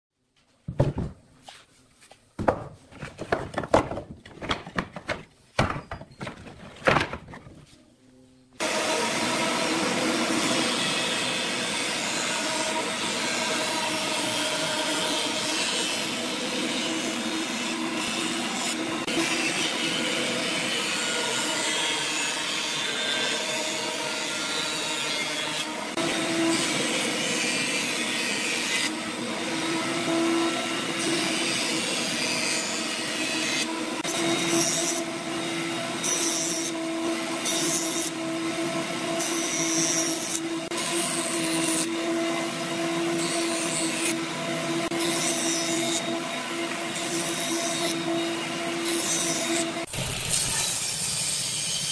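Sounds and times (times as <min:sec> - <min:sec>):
jointer shaving wooden board: 0:08.6 - 0:50.8.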